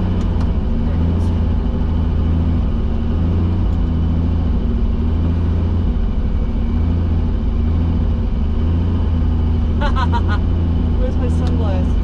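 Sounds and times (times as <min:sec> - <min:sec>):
helicopter engine humming: 0:00.0 - 0:12.0.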